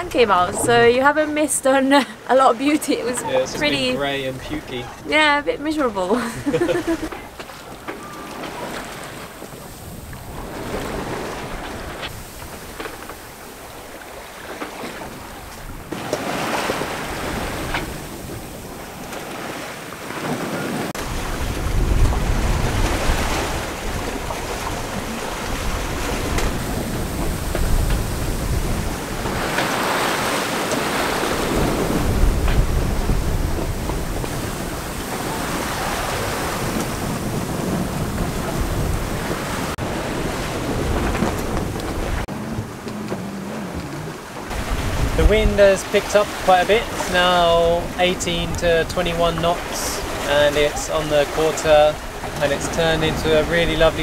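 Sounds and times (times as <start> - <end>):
water rushing past a hull: 0.0 - 54.0
wind buffeting microphone: 2.9 - 19.6, 20.2 - 54.0.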